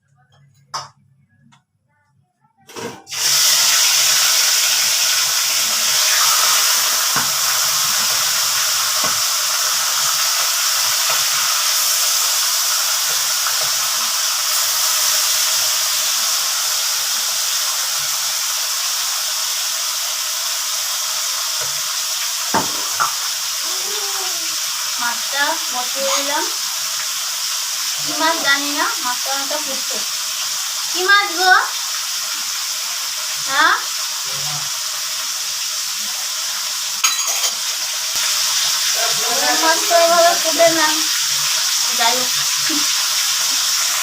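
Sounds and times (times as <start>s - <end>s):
fish sizzling in hot oil: 3.1s - 44.0s.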